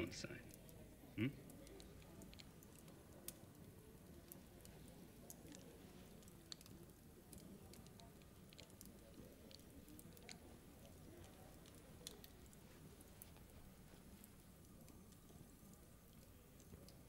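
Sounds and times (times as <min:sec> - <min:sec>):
faint low hum: 0:00.0 - 0:17.0
soft clicks and crackles: 0:00.3 - 0:17.0.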